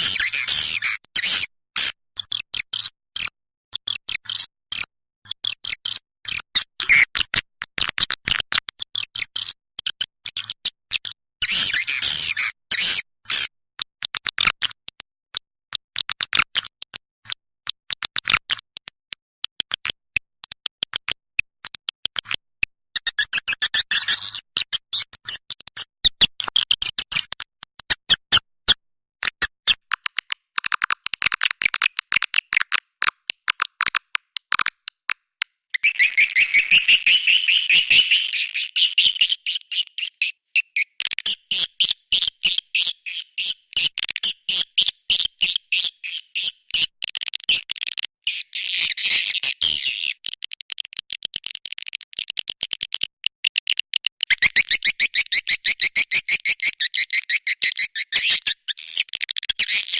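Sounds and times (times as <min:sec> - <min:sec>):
swiftlet clicks and chirps: 0:00.0 - 0:59.9.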